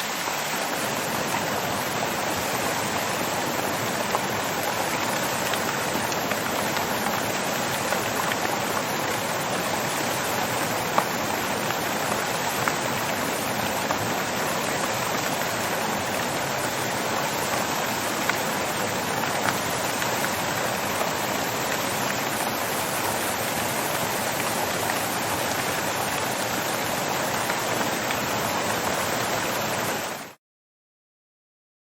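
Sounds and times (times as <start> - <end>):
water fountain splashing: 0.0 - 30.3.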